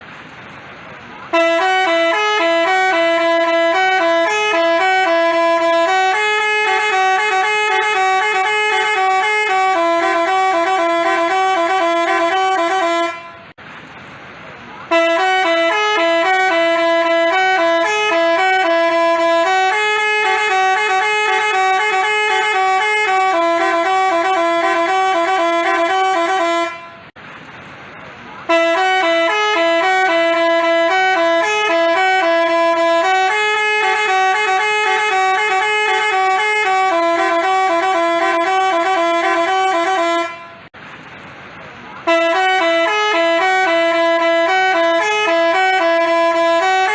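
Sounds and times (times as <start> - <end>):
multi-tone horn playing a tune: 1.3 - 13.5, 14.9 - 27.1, 28.5 - 40.7, 42.0 - 46.9.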